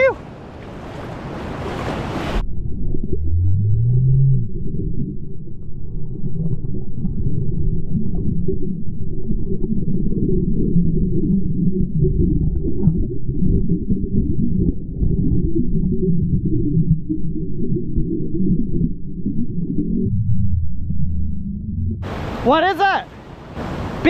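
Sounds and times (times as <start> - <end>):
water splashing: 0.0 - 24.0
muffled underwater rumble: 2.2 - 22.4
short low rising tone: 2.4 - 22.2.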